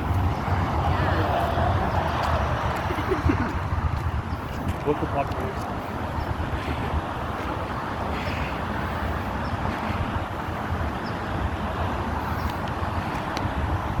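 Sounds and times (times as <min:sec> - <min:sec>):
outdoor rumble and hiss: 0:00.0 - 0:14.0.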